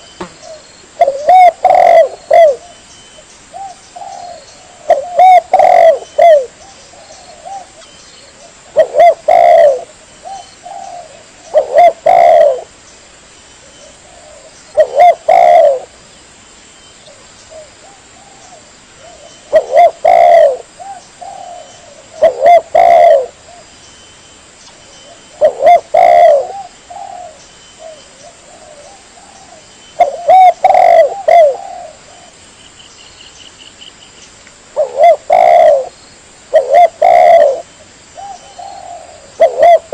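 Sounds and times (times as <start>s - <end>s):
dove cooing: 0.0s - 2.8s, 3.5s - 12.8s, 13.8s - 16.0s, 17.1s - 23.7s, 25.0s - 32.4s, 34.8s - 39.9s.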